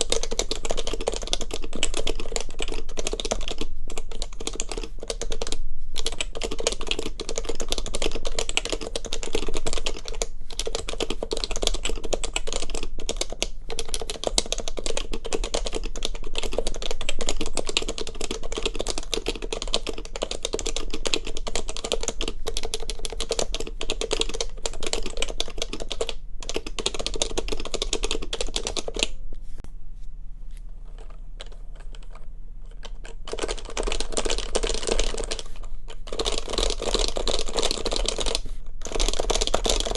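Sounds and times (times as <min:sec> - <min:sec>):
fast keyboard typing: 0:00.0 - 0:29.2, 0:30.9 - 0:39.9.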